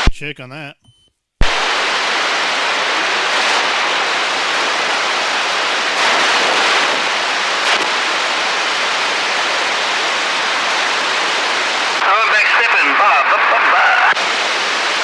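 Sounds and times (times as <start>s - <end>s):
radio static hissing: 1.4s - 15.0s.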